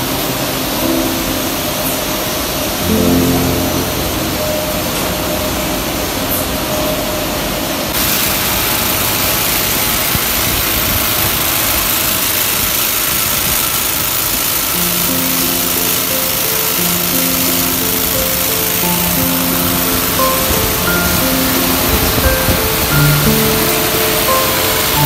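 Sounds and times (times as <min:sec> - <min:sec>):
factory machinery running: 0:00.0 - 0:25.0.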